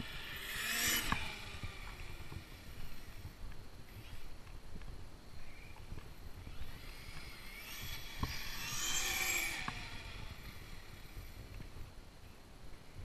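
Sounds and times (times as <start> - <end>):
rc truck motor whine: 0.0 - 4.4, 5.4 - 11.9.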